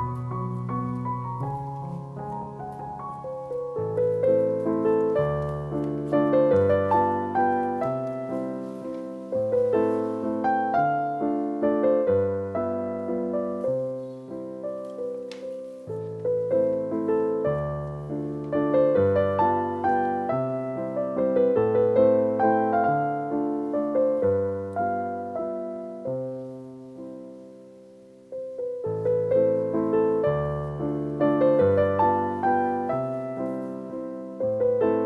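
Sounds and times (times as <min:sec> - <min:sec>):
piano music: 0:00.0 - 0:35.0.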